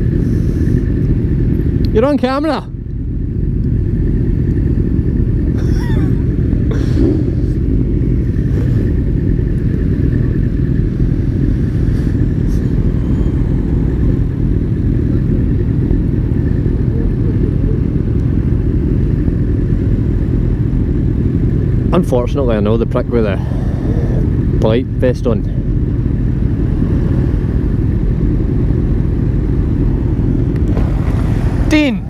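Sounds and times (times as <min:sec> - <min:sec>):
motorcycle engine running: 0:00.0 - 0:32.0
wind roar: 0:03.0 - 0:22.1, 0:23.0 - 0:32.0.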